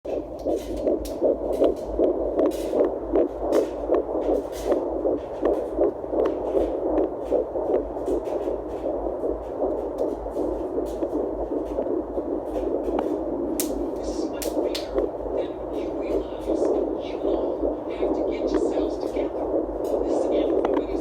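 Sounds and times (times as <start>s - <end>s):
fetal heartbeat whooshing pulse: 0.0s - 21.0s.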